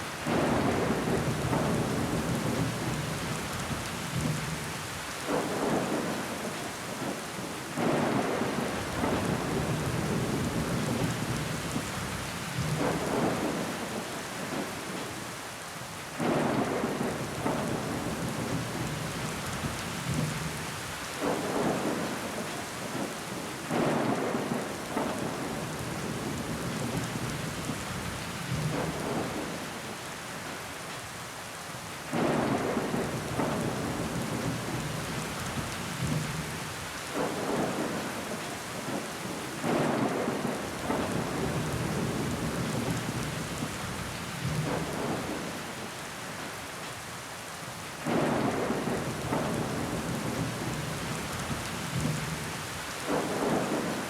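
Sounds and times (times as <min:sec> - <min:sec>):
rain pattering on window glass: 0:00.2 - 0:07.3, 0:07.9 - 0:15.2, 0:16.3 - 0:31.0, 0:32.1 - 0:47.0, 0:48.1 - 0:54.0.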